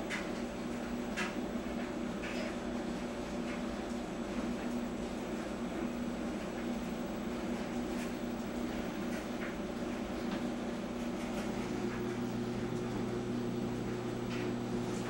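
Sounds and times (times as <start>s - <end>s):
clothes dryer humming: 0.0s - 15.0s.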